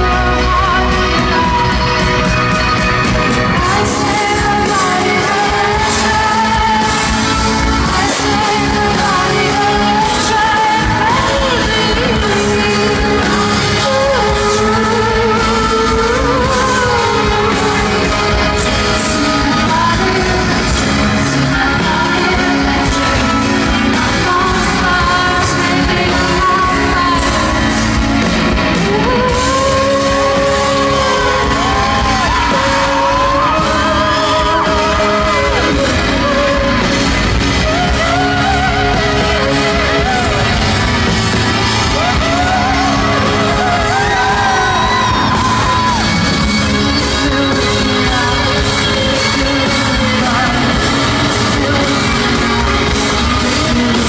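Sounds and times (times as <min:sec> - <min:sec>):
band playing: 0:00.0 - 0:54.0
crowd yelling: 0:00.0 - 0:54.0
woman singing: 0:00.0 - 0:54.0.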